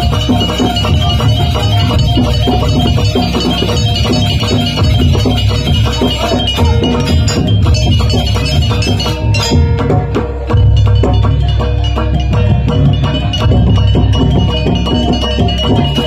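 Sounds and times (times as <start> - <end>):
deep bass: 0.0 - 16.0
gamelan style band: 0.0 - 16.0.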